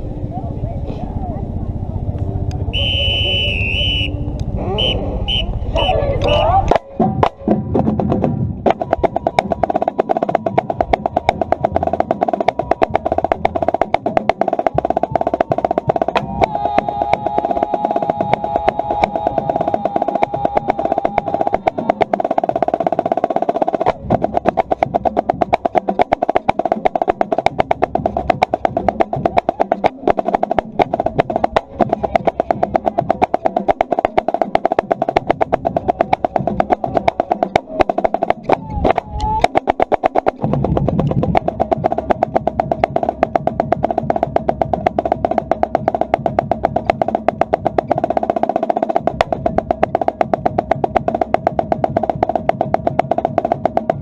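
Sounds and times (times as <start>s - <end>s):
fast snare drum strokes: 5.3s - 54.0s
marching drumline playing: 5.3s - 54.0s.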